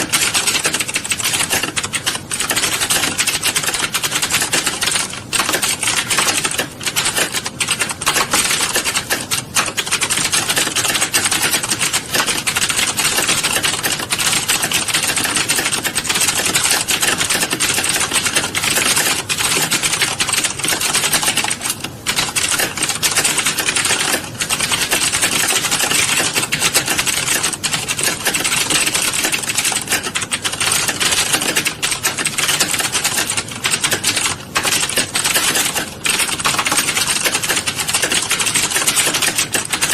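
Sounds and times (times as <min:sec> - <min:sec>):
rapid keyboard typing: 0:00.0 - 0:39.9.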